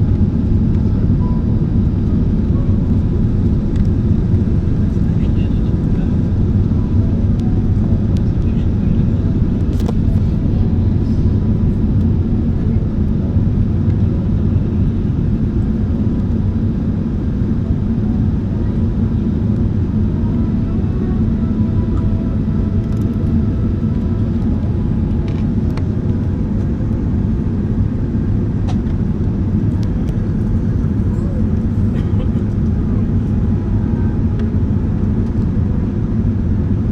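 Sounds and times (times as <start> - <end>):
jet engines rumbling: 0.0 - 36.9.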